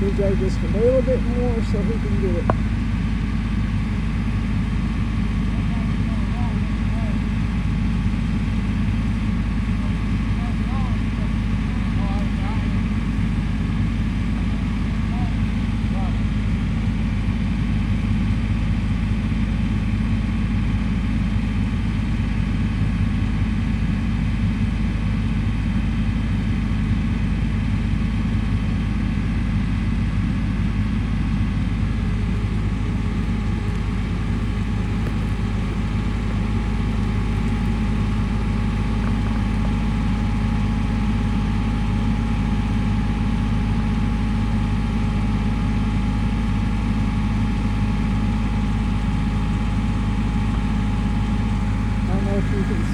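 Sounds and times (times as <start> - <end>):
vehicle engine idling: 0.0 - 52.9.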